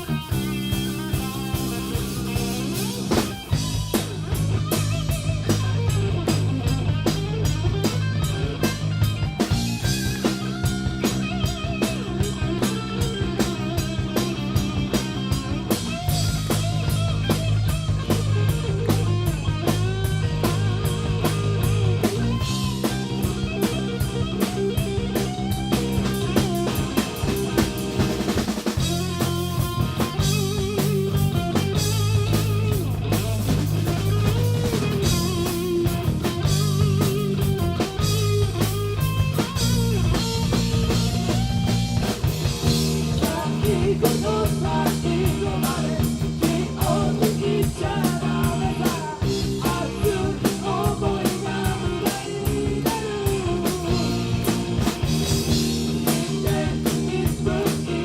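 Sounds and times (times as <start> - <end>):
bass: 0.0 - 58.0
drum kit: 0.0 - 58.0
electric guitar: 0.0 - 58.0.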